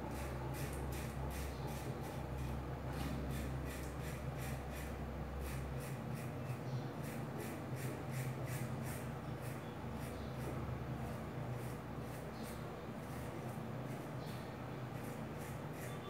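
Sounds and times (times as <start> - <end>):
razor scraping stubble: 0.1 - 2.5, 3.3 - 16.0.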